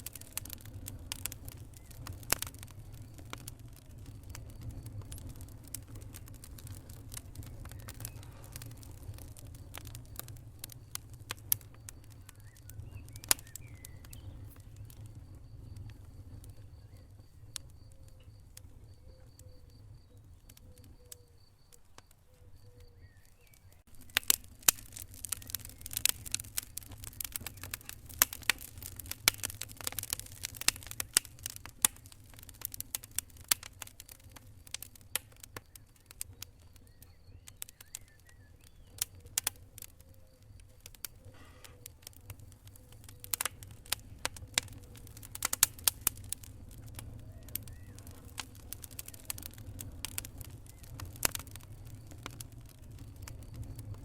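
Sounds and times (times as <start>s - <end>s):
fire crackling and popping: 0.0s - 54.0s
low rumble of fire: 0.0s - 54.0s.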